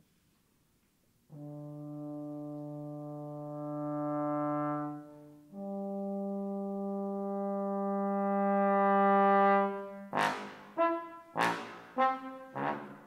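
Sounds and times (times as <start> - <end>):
bass trombone playing: 1.3 - 13.0.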